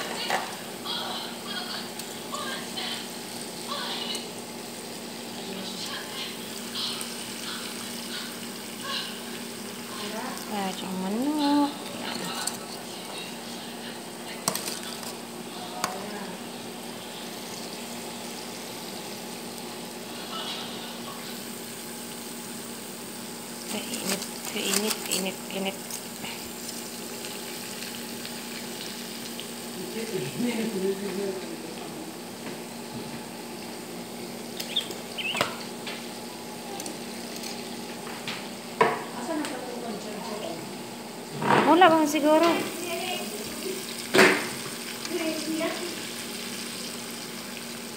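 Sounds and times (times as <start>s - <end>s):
chicken deep-frying in oil: 0.0s - 47.9s.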